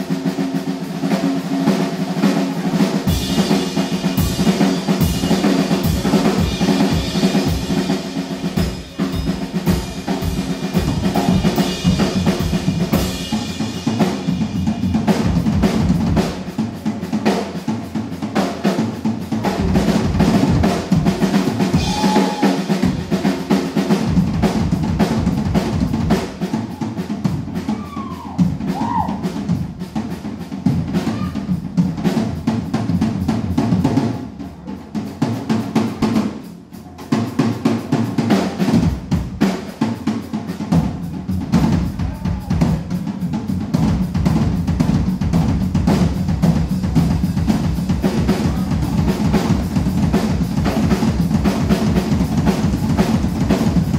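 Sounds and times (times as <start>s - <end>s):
snare drum strokes and rolls: 0.0s - 53.9s.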